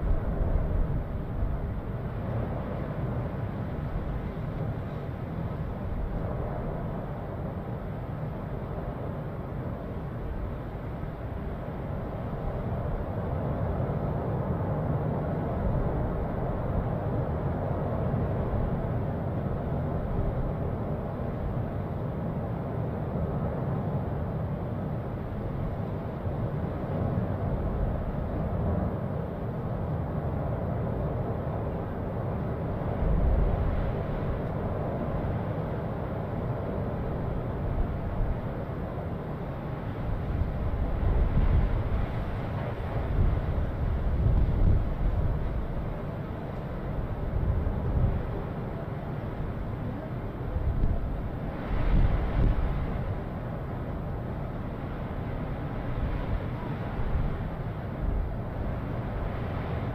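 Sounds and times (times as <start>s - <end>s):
volcano deep rumble: 0.0s - 59.9s.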